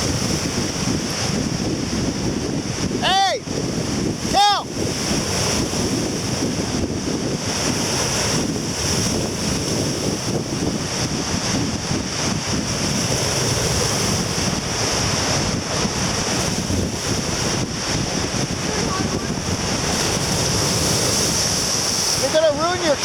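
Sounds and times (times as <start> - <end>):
heavy surf breaking: 0.0 - 23.0
wind buffeting microphone: 0.0 - 23.0.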